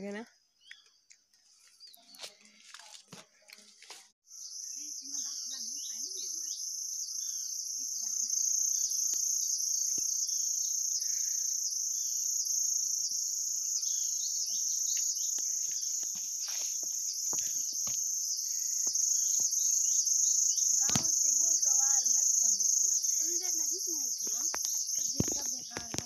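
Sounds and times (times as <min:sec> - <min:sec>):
insect chorus shrilling: 0:04.3 - 0:26.0.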